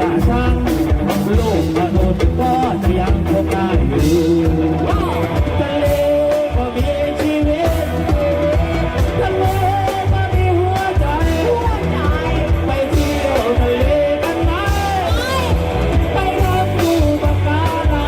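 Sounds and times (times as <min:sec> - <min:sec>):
amplified live band music: 0:00.0 - 0:18.0
heavy bass and drum beat: 0:00.0 - 0:18.0.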